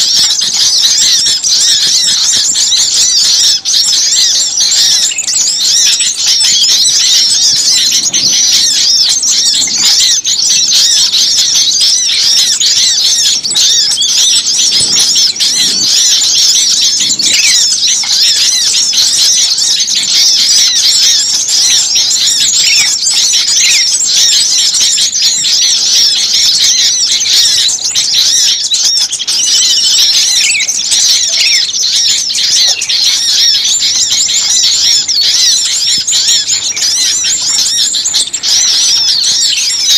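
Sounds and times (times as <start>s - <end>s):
small songbirds chirping and trilling: 0.0s - 39.9s.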